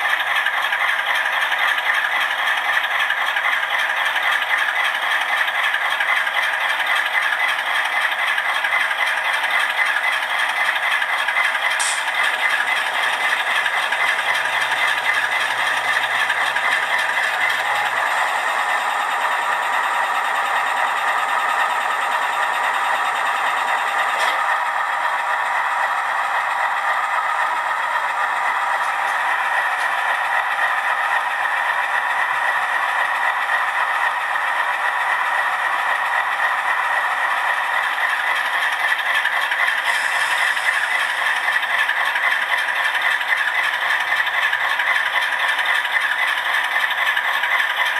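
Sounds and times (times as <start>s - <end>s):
diesel engine from small speaker: 0.0s - 47.9s.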